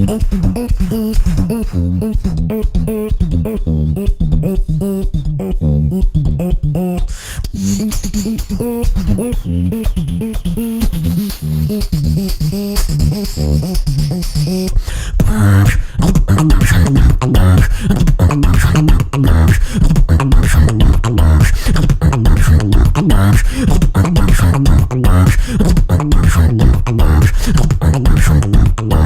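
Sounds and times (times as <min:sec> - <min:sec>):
beatboxing vocal percussion: 0:00.0 - 0:29.0
hummed bass tones: 0:00.0 - 0:29.0
mouth clicks: 0:00.0 - 0:29.0.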